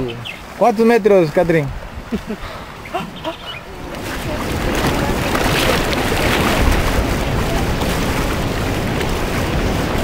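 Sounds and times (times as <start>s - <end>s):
choppy sea water rushing: 0.0s - 10.0s
wind buffeting microphone: 1.3s - 10.0s.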